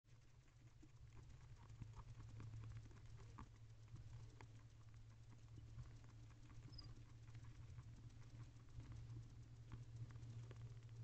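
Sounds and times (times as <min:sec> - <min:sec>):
owl preening clicks and rustles: 0:00.1 - 0:11.0
steady low hum: 0:00.1 - 0:11.0.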